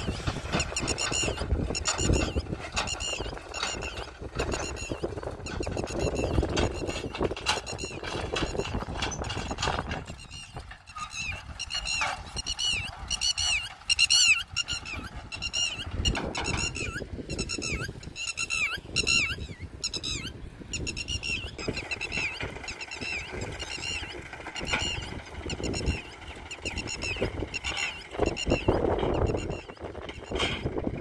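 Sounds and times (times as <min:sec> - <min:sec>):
high-pitched squeaky chirps: 0:00.0 - 0:30.7
tractor engine rumble: 0:00.0 - 0:31.0.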